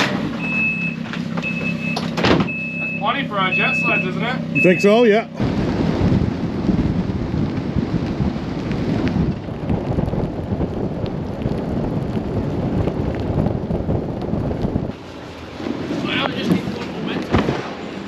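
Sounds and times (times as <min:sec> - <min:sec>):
vehicle rumble on snowy road: 0:00.0 - 0:18.0
wind buffeting: 0:00.2 - 0:18.0.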